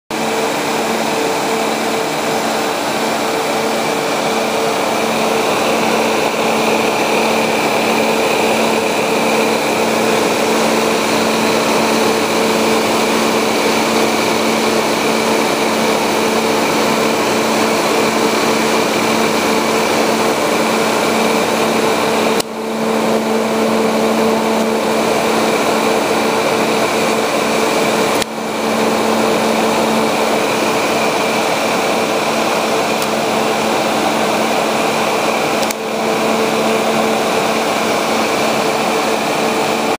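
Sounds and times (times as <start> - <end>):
electric cooling fans running: 0.1 - 39.9.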